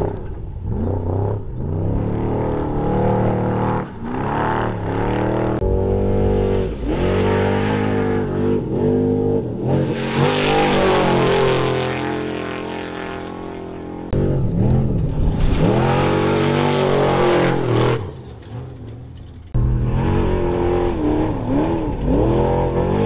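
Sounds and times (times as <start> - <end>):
racing truck engines revving: 0.0 - 23.0.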